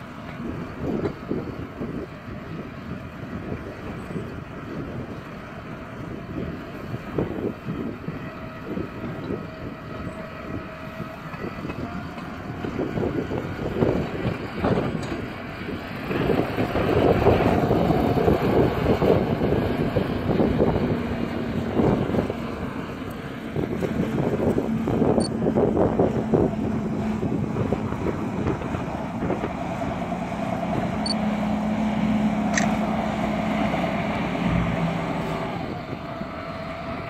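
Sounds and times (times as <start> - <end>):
tractor engine running: 0.0 - 37.0
wind buffeting the microphone: 0.0 - 37.0.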